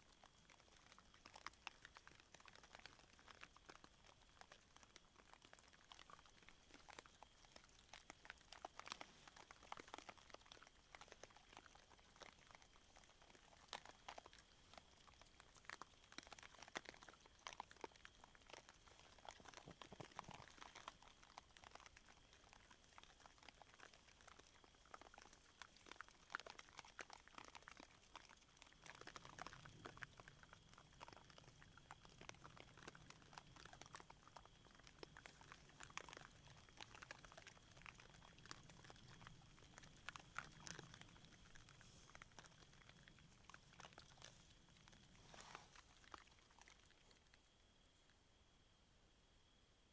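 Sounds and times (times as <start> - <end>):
boar crunching maize: 0.0 - 47.5.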